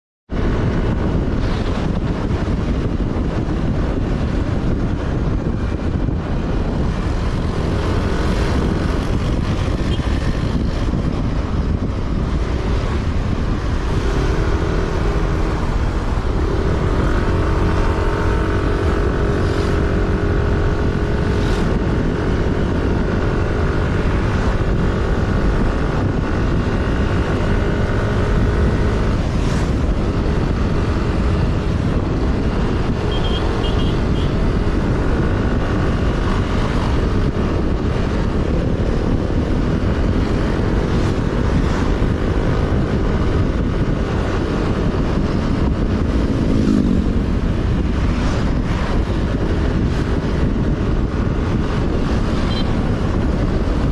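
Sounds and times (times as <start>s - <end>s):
road and wind noise: 0.3s - 53.9s
vehicle engine running: 0.3s - 53.9s.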